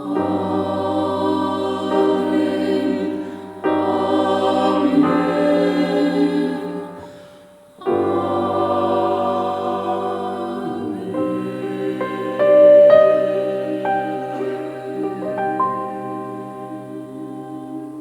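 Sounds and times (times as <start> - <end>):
vocal ensemble singing in harmony: 0.0 - 18.0.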